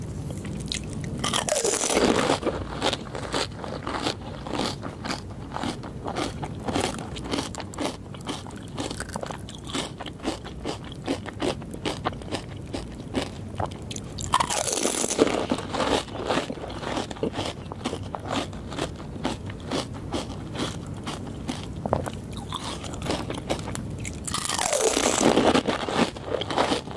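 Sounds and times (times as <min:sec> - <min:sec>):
crackling chewing crunches: 0:00.0 - 0:26.9
crunching bite: 0:00.3 - 0:26.9.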